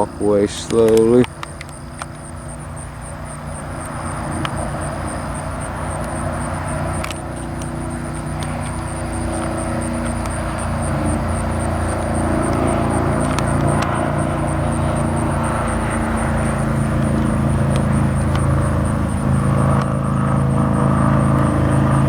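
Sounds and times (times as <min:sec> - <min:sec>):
distant engine drone: 0:00.0 - 0:22.0.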